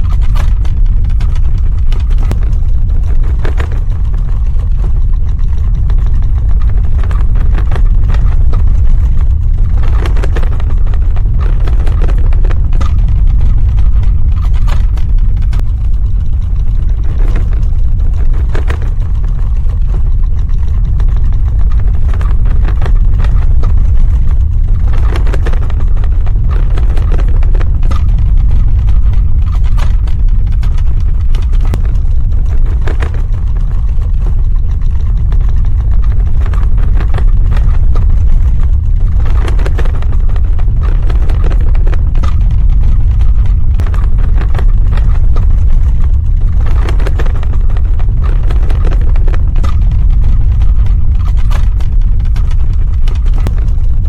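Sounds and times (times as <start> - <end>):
crackles and clattering: 0.0 - 54.0
deep rumble: 0.0 - 54.0.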